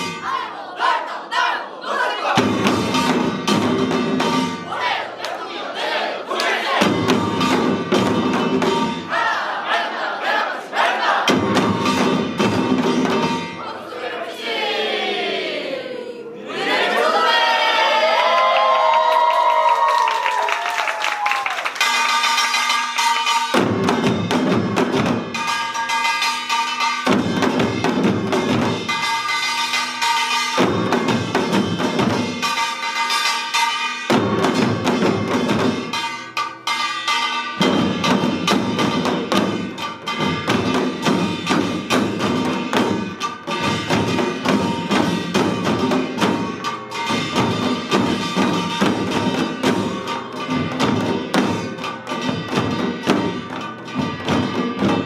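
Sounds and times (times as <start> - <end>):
drums struck together: 2.2 - 13.7, 21.8 - 55.0.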